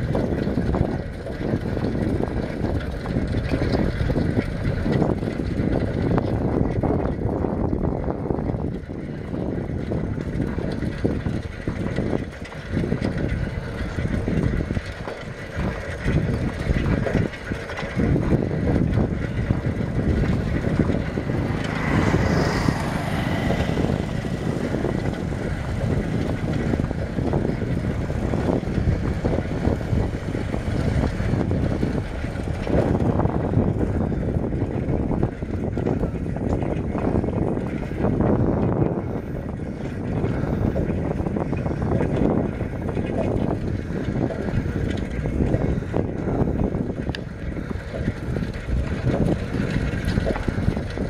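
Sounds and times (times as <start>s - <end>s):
vehicle running noise: 0.0s - 51.0s
wind buffeting microphone: 0.0s - 51.0s.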